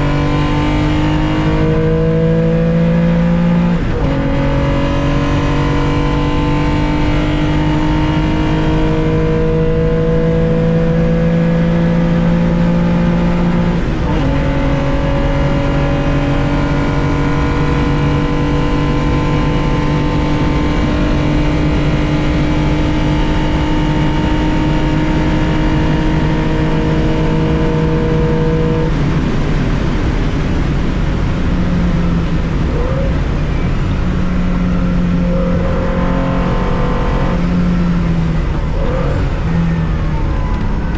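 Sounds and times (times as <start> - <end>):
car engine at full throttle: 0.0 - 40.9.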